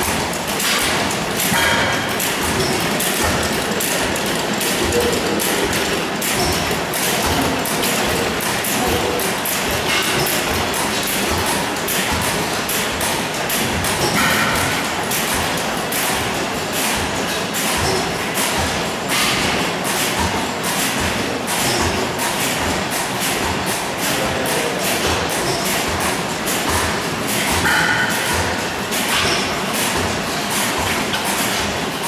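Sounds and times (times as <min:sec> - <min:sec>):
stationary gas engines thumping: 0:00.0 - 0:32.0.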